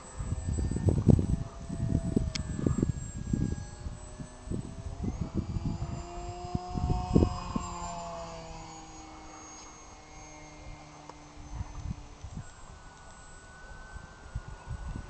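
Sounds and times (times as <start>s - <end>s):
model plane motor whine: 0.0s - 15.0s
wind buffeting microphone: 0.0s - 15.0s.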